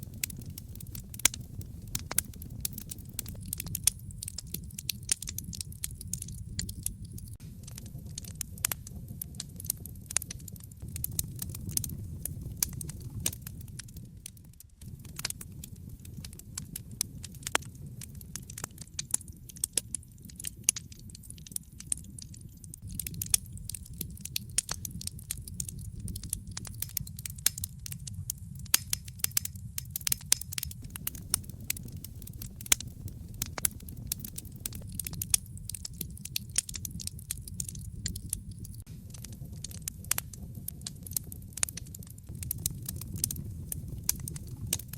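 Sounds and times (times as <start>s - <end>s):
low rumble of flames: 0.0s - 44.9s
wood fire crackling: 0.0s - 44.9s.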